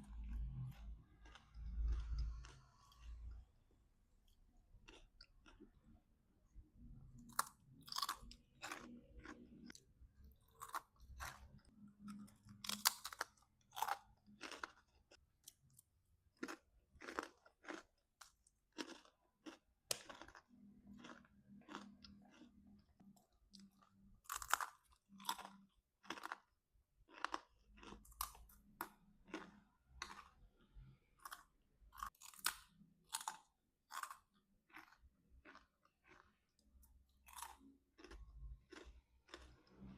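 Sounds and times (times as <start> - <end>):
person chewing crunchy food: 0.0 - 6.1, 6.8 - 39.9.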